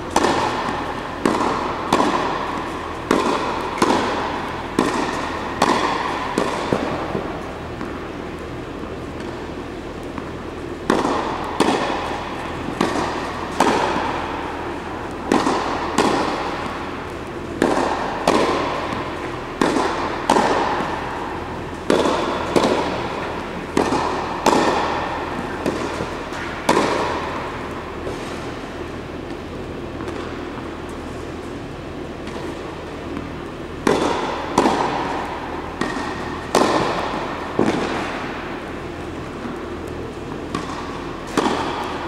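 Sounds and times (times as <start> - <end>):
tennis ball strikes echoing: 0.0 - 42.0.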